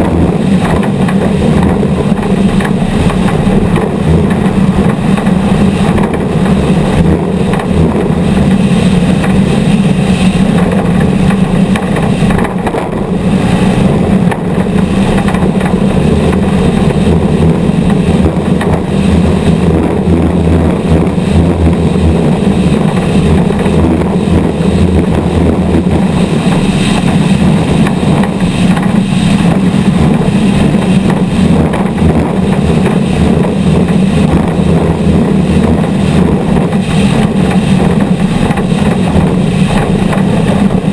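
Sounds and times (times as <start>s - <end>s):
race vehicle engine running loud: 0.0s - 40.9s.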